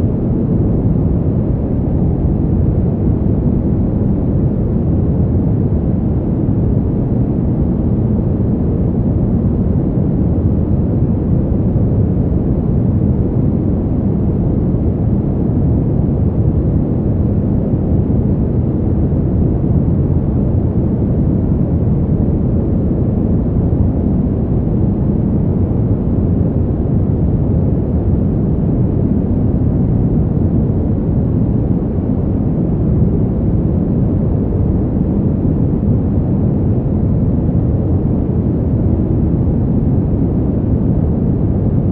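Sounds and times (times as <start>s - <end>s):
deep brown noise: 0.0s - 41.9s.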